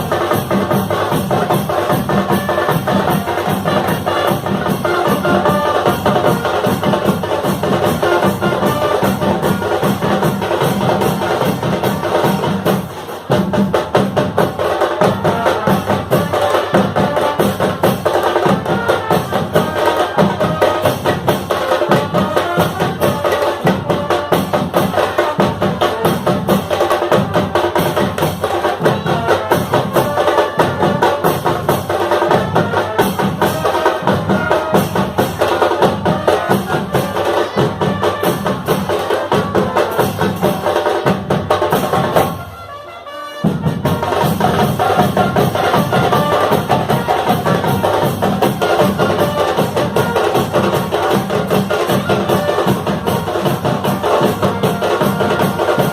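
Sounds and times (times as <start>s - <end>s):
brass marching band playing: 0.0s - 55.9s.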